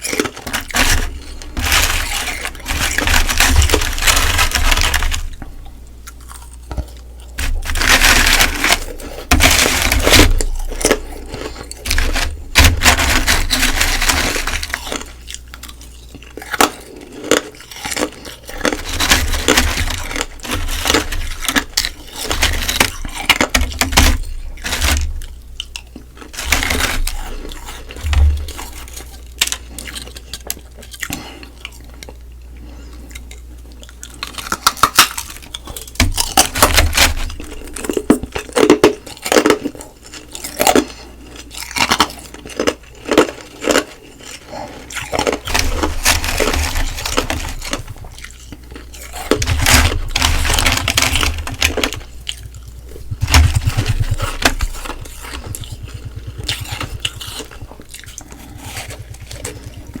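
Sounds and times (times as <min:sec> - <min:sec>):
crunching and chewing ice: 0:00.0 - 1:00.0.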